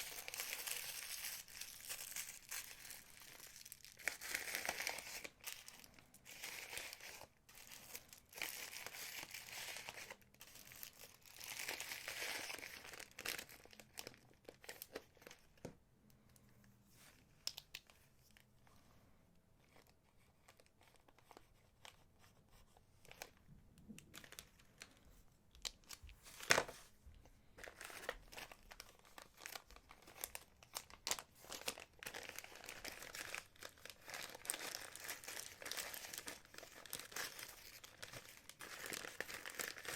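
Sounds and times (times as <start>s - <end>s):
packaging crinkling and rustling: 0.0s - 15.7s, 23.0s - 39.9s.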